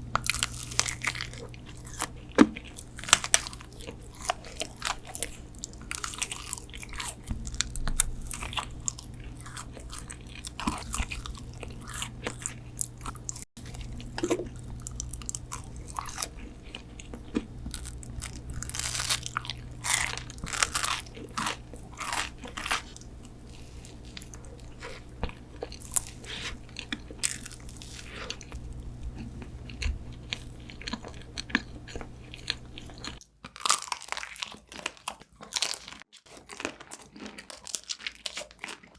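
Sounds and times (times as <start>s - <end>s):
steady low hum: 0.0s - 33.2s
crunching and chewing: 0.0s - 38.9s.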